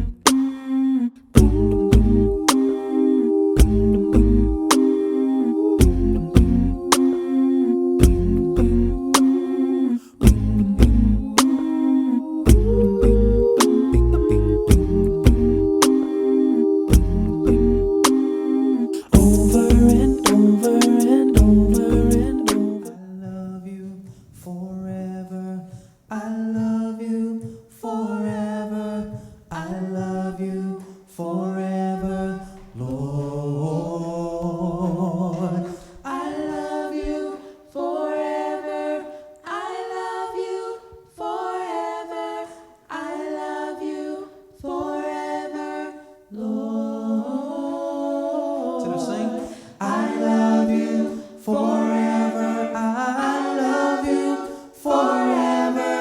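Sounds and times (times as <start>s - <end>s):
a cappella hymn singing: 0.0s - 56.0s.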